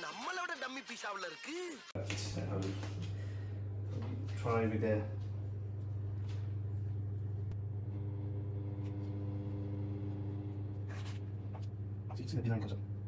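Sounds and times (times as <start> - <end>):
kitchen appliance humming: 2.0 - 13.0.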